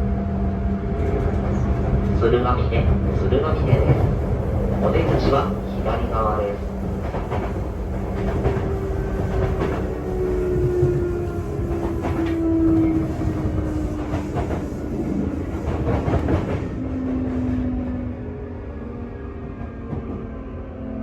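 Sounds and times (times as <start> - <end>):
train running noise: 0.0 - 20.4.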